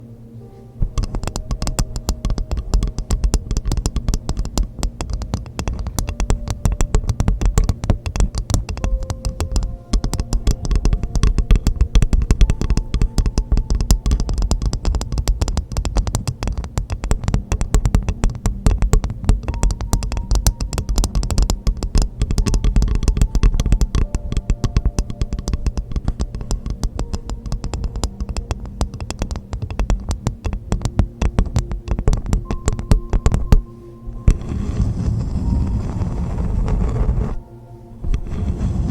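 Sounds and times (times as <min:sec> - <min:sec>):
tapping on hollow coconut shell: 0:00.8 - 0:37.4.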